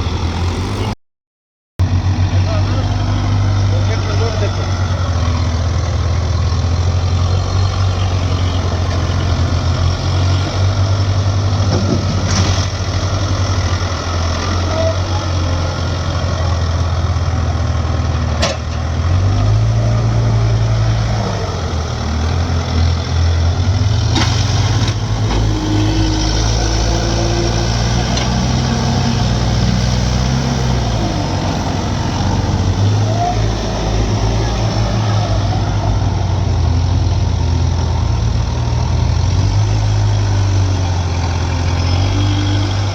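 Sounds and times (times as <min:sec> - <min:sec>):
backhoe diesel engine running: 0:00.0 - 0:00.9, 0:01.8 - 0:42.9.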